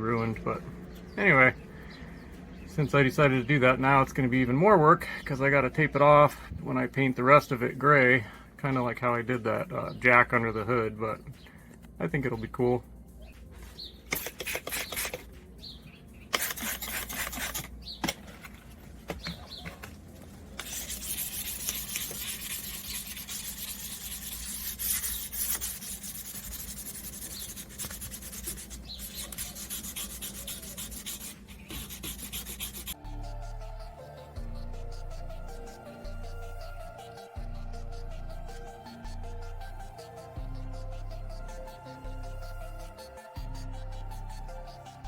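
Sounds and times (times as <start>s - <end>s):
music: 0.0s - 45.0s.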